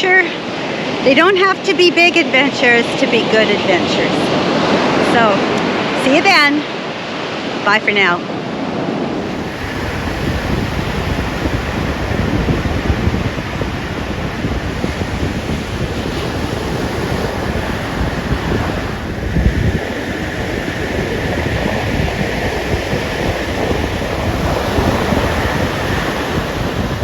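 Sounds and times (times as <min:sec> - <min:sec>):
waves breaking on beach: 0:00.0 - 0:27.0
wind buffeting microphone: 0:00.0 - 0:27.0.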